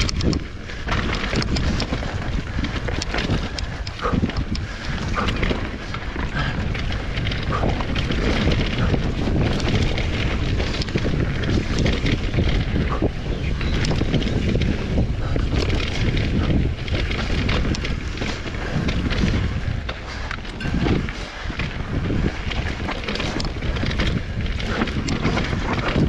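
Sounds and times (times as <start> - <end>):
bike knocks and rattles: 0.0 - 26.0
tyres rolling on dirt: 0.0 - 26.0
wind buffeting microphone: 0.0 - 26.0.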